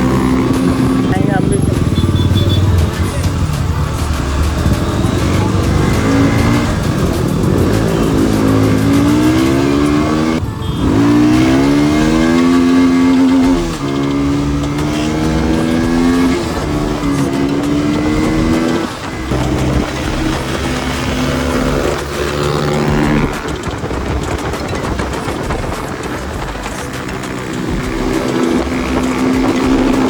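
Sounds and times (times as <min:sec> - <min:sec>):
motorcycle engine shifting gears: 0:00.0 - 0:30.0.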